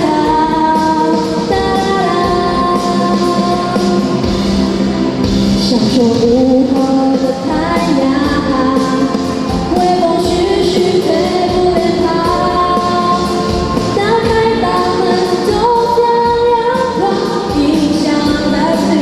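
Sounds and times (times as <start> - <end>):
instrumental backing with steady beat: 0.0 - 19.0
woman singing: 0.0 - 19.0.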